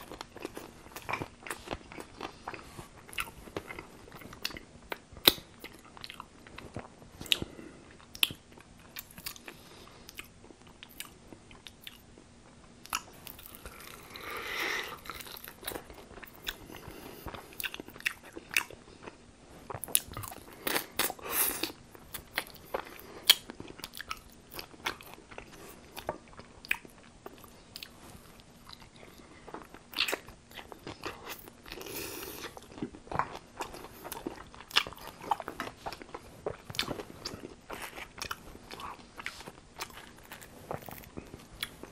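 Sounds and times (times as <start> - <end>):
chewing: 0.0 - 12.0, 12.8 - 41.9.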